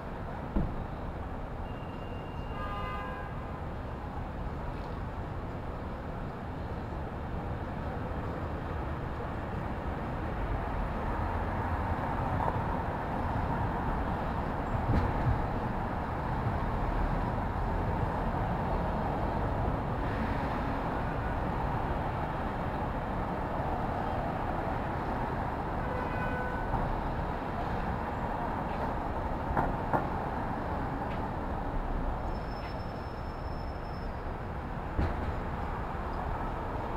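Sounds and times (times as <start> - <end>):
city street traffic rumble: 0.0 - 36.9.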